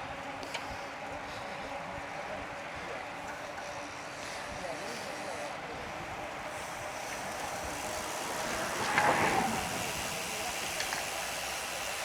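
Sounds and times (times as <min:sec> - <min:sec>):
wind and road noise from bicycle: 0:00.0 - 0:12.0.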